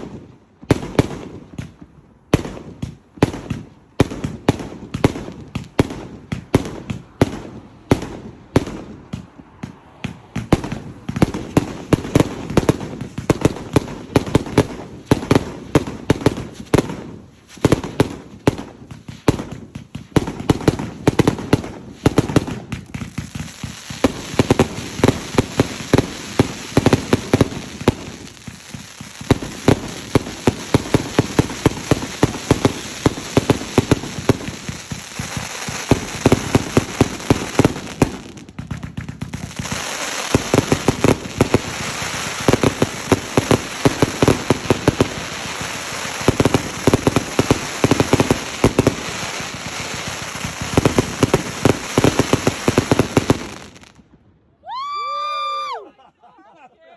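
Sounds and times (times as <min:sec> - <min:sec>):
fireworks crackling and banging: 0:00.0 - 0:55.8.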